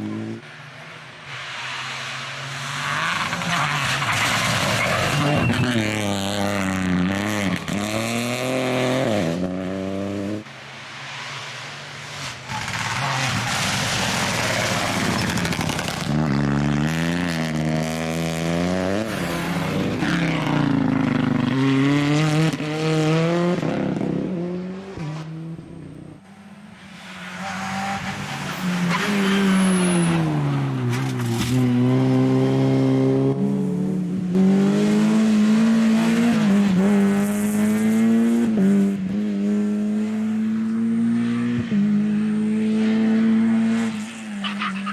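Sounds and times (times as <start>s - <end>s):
rally car engines at full throttle: 0.0s - 44.9s.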